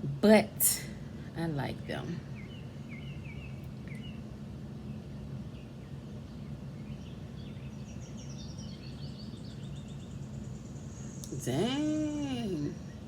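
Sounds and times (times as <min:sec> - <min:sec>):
steady low hum: 0:00.0 - 0:13.0
bird chirping: 0:02.0 - 0:13.0.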